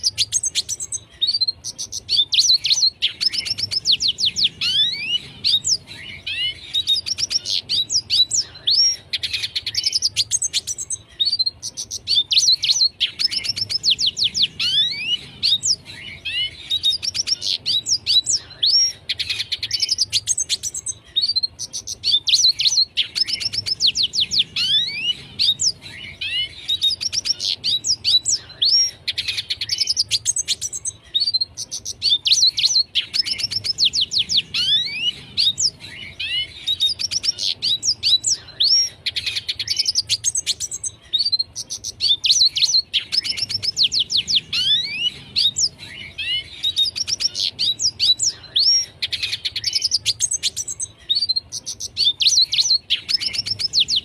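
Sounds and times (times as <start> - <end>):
bird singing twittering phrases: 0.0 - 54.0.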